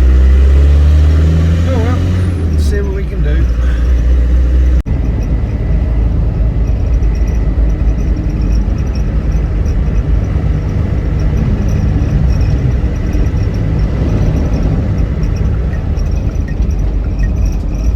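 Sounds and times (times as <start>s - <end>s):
diesel engine rumble in cab: 0.0s - 17.9s
road noise: 0.0s - 17.9s.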